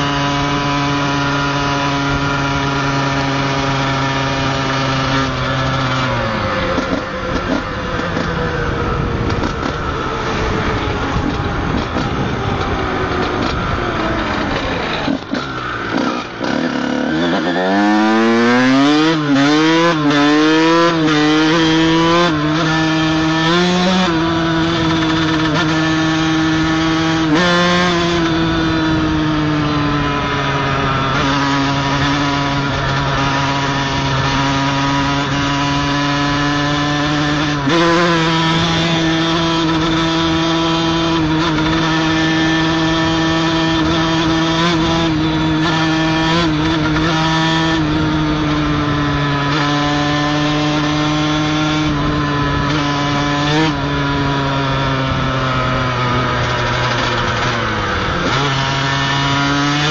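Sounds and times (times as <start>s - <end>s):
motocross engine revving and shifting: 0.0s - 59.9s.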